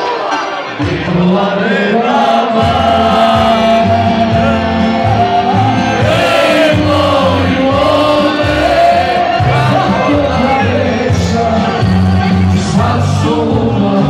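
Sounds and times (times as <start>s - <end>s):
crowd singing along: 0.0s - 14.0s
loud live band music: 0.0s - 14.0s.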